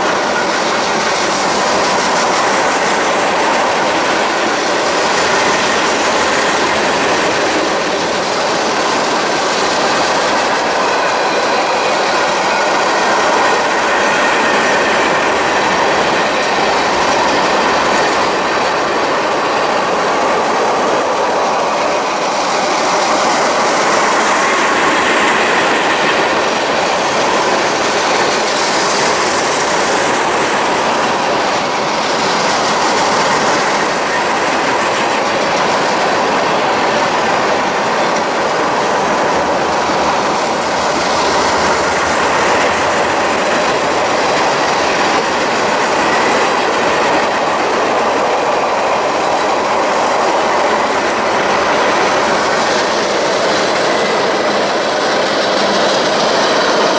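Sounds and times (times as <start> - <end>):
railroad cars rolling on rails: 0.0 - 56.9.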